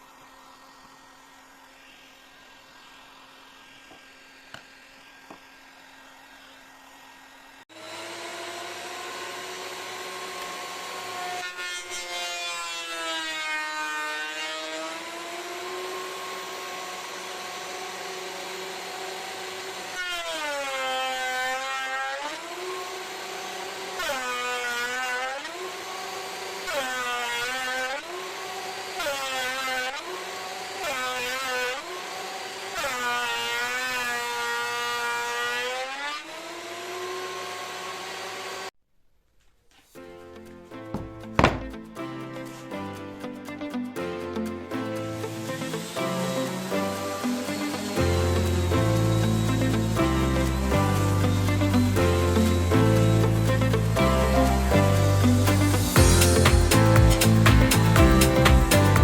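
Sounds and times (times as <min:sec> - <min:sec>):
power tool whining on wood: 0:00.0 - 0:38.8, 0:45.0 - 0:59.0.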